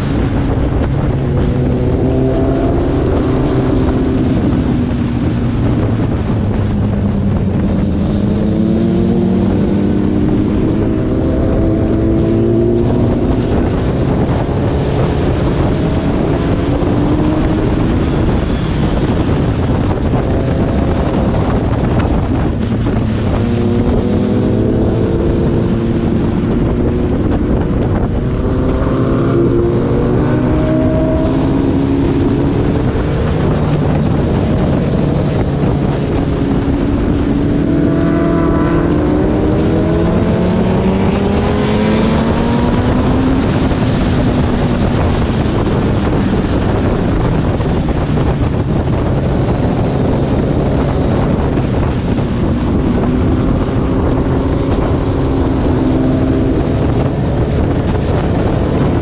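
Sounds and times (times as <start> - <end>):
motorcycle engine accelerating: 0.0 - 59.0
wind noise on microphone: 0.0 - 59.0.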